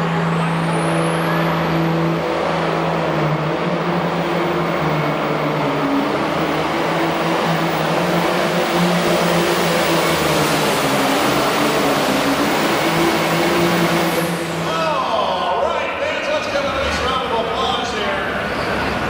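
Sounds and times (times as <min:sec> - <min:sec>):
tractor diesel engine running under load: 0:00.0 - 0:19.0.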